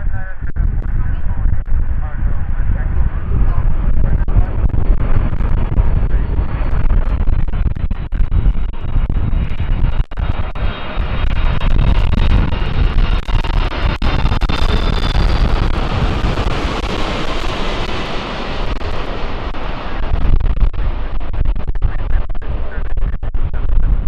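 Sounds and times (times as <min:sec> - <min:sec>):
jet engine rumble: 0:00.0 - 0:24.0
jet engine whine: 0:00.3 - 0:24.0.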